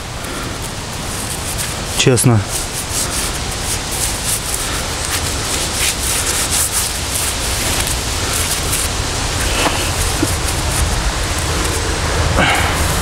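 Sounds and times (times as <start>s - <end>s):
glove scraping soil off metal: 1.0s - 12.0s.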